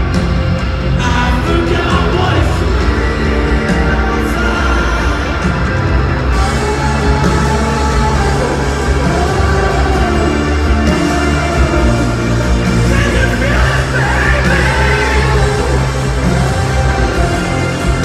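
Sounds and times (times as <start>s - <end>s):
arena crowd: 0.0s - 18.0s
rock band playing live: 0.0s - 18.0s.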